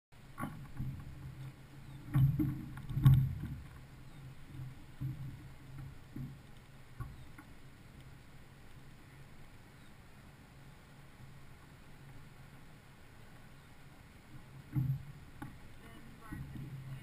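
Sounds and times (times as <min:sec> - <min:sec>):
oars knocking and clunking: 0:00.2 - 0:17.0
water rushing along hull: 0:00.2 - 0:17.0.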